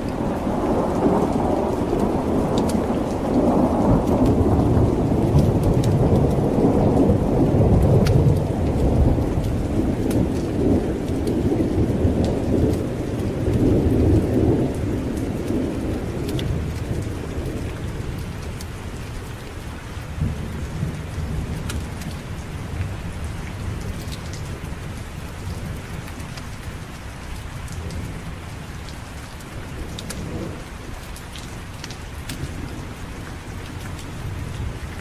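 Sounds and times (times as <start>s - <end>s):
thunder rumbling: 0.0s - 26.8s, 27.8s - 35.0s
steady rain: 0.0s - 35.0s.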